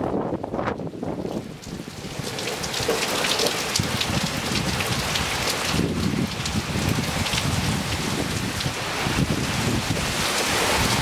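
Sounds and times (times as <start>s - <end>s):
rain on paved patio: 0.0s - 11.0s.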